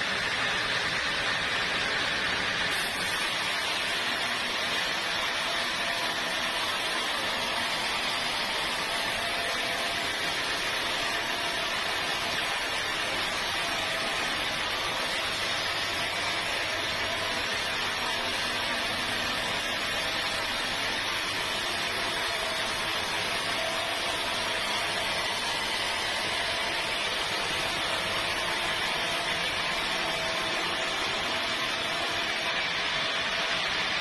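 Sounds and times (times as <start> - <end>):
machine hissing: 2.7 - 34.0.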